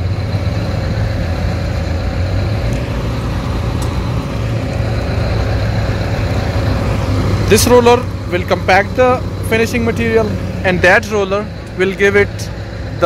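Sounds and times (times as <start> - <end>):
road roller diesel engine running: 0.0 - 13.0.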